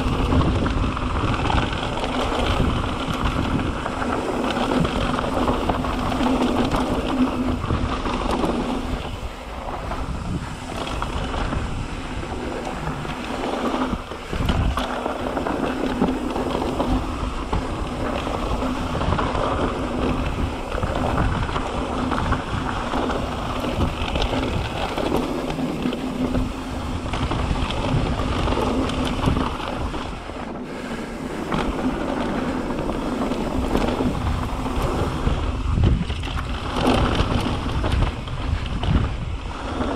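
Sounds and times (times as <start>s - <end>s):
bike rattling over bumps: 0.0s - 39.9s
tyres rolling over dirt and rocks: 0.0s - 39.9s
wind buffeting microphone: 0.0s - 39.9s.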